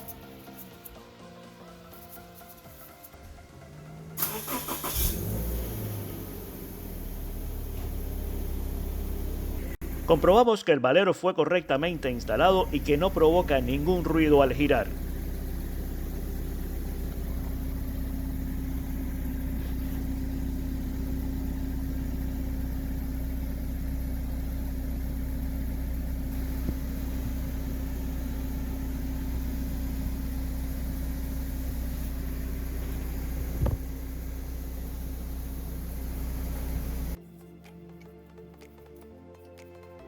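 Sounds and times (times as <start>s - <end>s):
car engine running: 2.8s - 10.4s, 11.6s - 37.2s.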